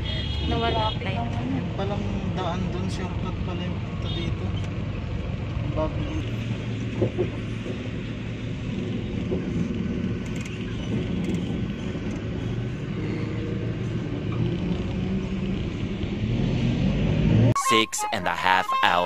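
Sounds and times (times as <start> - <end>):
car interior rumble: 0.0 - 16.4.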